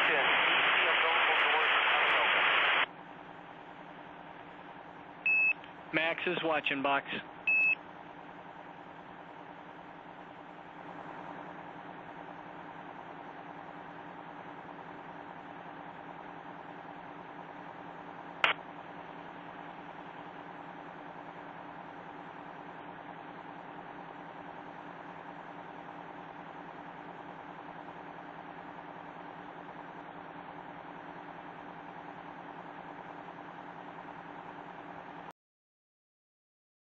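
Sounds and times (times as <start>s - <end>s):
audio line hum and hiss: 0.0s - 35.3s.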